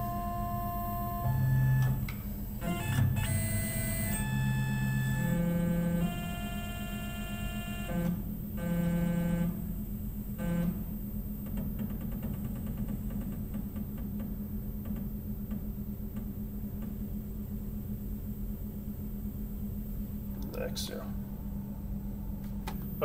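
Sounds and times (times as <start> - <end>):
machine axis whine: 0.0 - 23.0.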